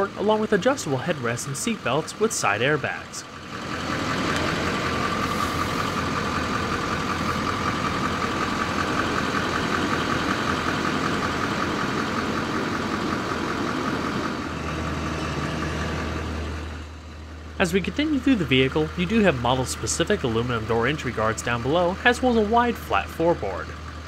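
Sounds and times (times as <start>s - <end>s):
engine idling with clatter: 0.0s - 24.0s.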